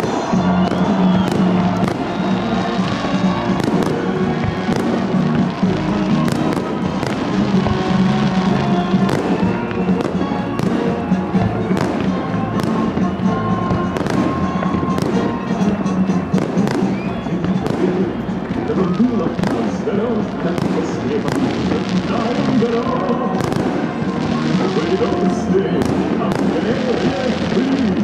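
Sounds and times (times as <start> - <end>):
fireworks bangs: 0.0 - 28.0
music playing: 0.0 - 28.0.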